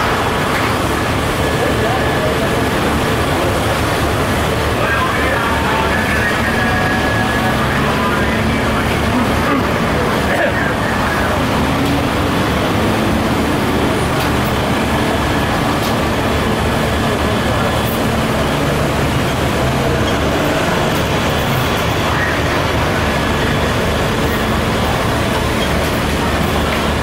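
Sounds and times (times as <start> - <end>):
heavy vehicle engines humming: 0.0 - 27.0
street traffic noise: 0.0 - 27.0.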